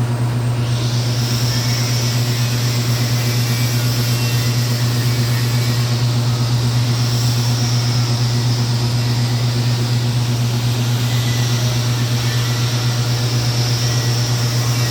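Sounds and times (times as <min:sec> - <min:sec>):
welding arc buzzing: 0:00.0 - 0:14.9.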